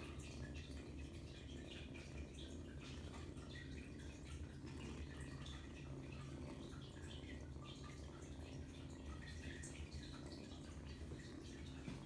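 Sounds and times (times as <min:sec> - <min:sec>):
kitten purring: 0:00.0 - 0:12.0.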